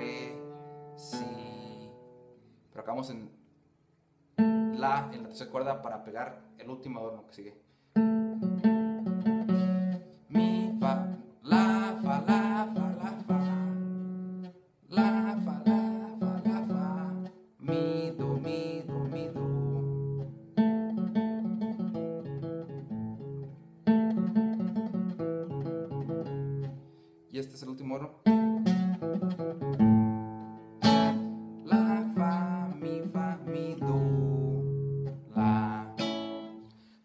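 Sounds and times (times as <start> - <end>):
acoustic guitar picked notes: 0.0 - 2.8, 4.3 - 7.0, 7.7 - 37.0.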